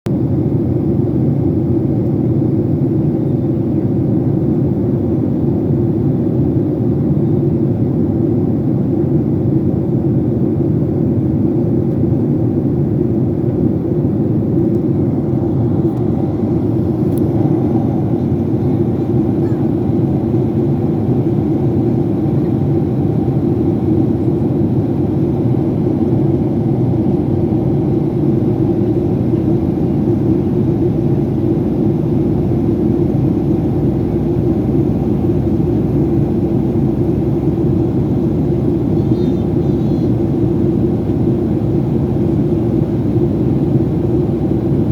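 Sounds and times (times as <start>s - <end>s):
airplane cabin roar: 0.1s - 44.9s.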